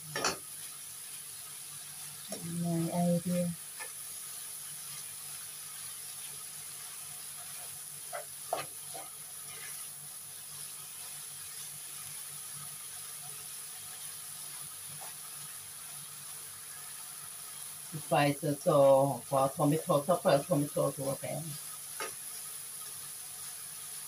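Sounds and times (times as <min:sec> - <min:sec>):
chili paste sizzling in a frying pan: 0:00.0 - 0:24.0.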